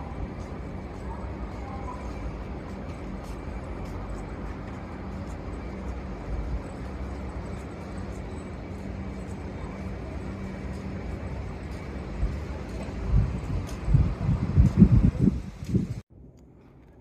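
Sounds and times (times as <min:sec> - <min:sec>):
distant traffic: 0:00.0 - 0:17.0.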